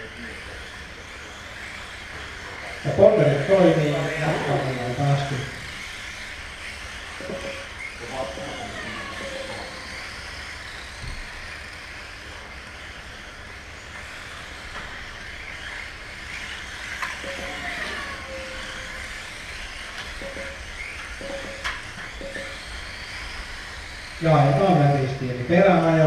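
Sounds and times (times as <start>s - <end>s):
small electric motors whining: 0.0s - 26.0s.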